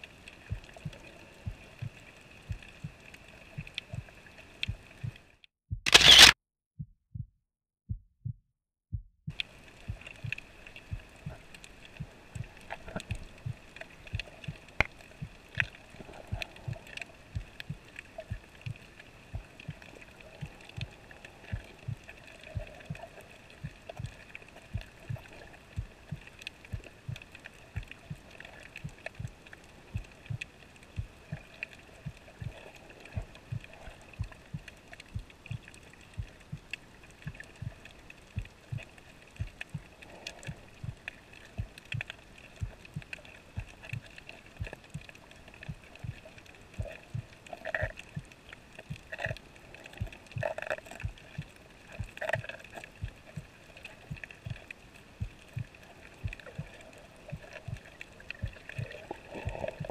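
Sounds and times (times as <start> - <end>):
faint steady hiss: 0.0 - 5.3, 9.3 - 59.9
soft low underwater thumps: 0.3 - 5.8, 6.8 - 59.9.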